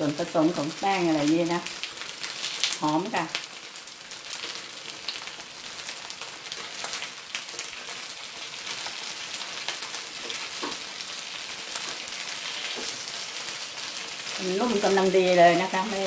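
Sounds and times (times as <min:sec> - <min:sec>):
cakes sizzling in hot oil: 0:00.0 - 0:16.0.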